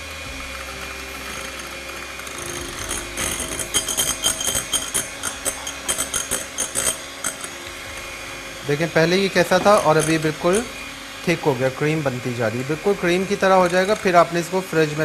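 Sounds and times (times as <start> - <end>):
electric hand mixer motor hum: 0.0 - 15.0
beaters clicking and rattling in bowl: 0.4 - 15.0.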